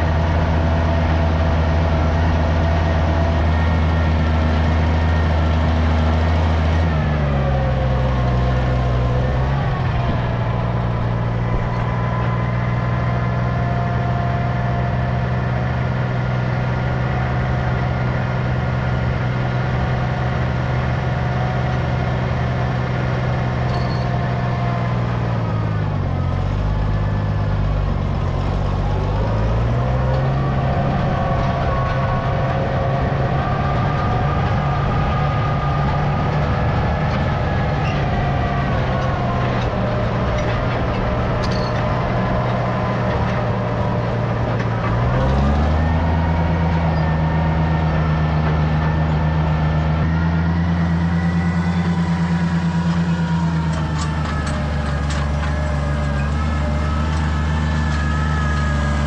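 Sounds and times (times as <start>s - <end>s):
tractor engine running: 0.0s - 59.0s
wavering whine: 7.2s - 59.0s.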